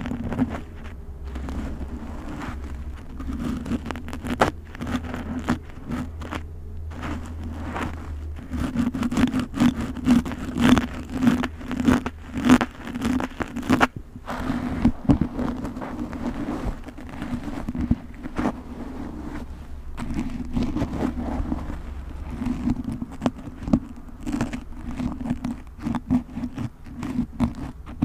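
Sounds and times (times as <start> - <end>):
pointed tool scraping through hair: 0.0 - 28.0.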